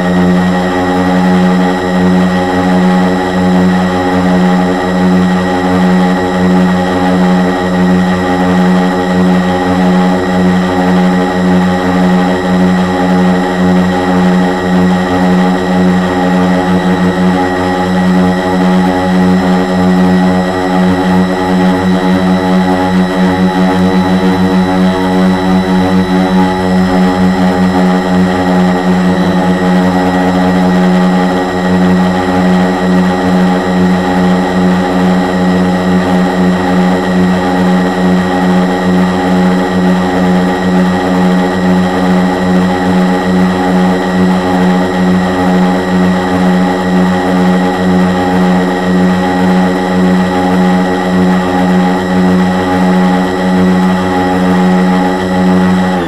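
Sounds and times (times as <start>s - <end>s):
quadcopter motors buzzing: 0.0s - 56.0s.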